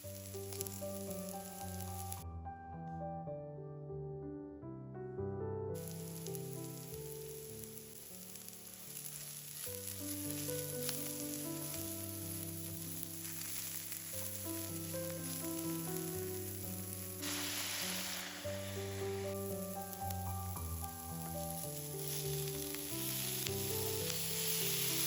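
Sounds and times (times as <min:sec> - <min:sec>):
food sizzling in a pan: 0:00.0 - 0:02.2, 0:05.8 - 0:25.0
background music: 0:00.0 - 0:25.0.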